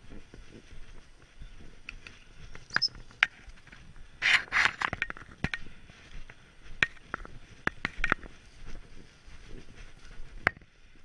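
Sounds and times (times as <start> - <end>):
footsteps: 0.0 - 11.0
rustling vegetation: 0.0 - 11.0.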